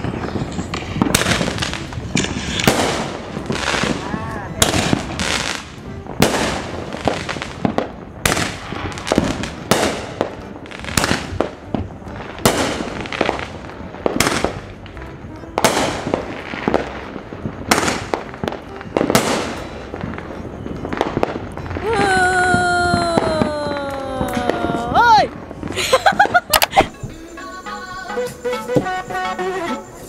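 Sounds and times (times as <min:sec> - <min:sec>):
firework shells bursting: 0:00.0 - 0:27.4.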